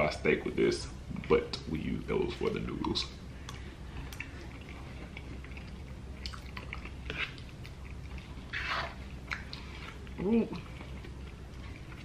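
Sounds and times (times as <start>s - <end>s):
chewing food: 1.2s - 12.0s.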